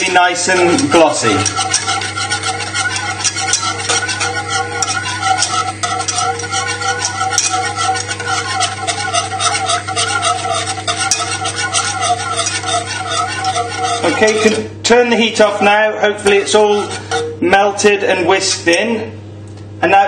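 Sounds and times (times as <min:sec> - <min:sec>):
whisk beating in a saucepan: 0:00.0 - 0:18.9
steady low hum: 0:00.0 - 0:20.0.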